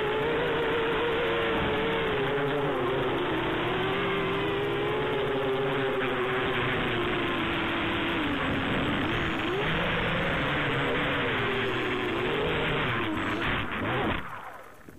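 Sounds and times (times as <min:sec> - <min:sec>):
drone propellers whirring: 0:00.0 - 0:14.9.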